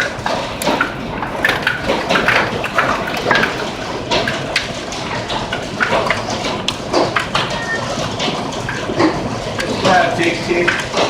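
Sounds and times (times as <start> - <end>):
hailstones clattering: 0.0 - 11.0
rushing water: 0.0 - 11.0.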